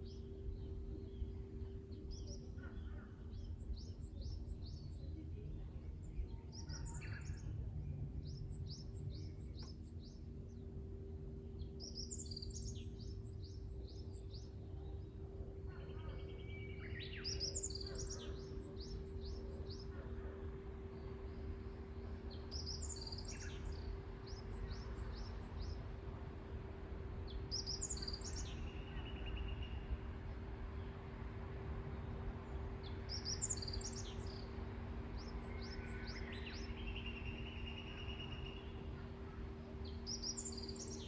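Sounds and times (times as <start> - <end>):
songbirds chirping and singing: 0.0 - 26.1, 26.7 - 41.0
faint constant hum: 0.0 - 41.0
steady low rumble: 0.0 - 41.0.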